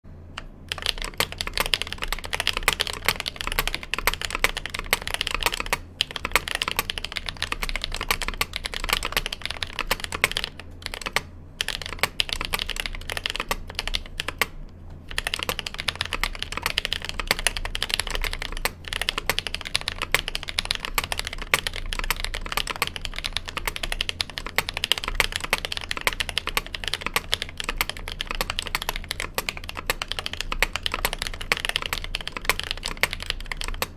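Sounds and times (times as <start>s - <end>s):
mechanical keyboard typing: 0.4s - 33.9s.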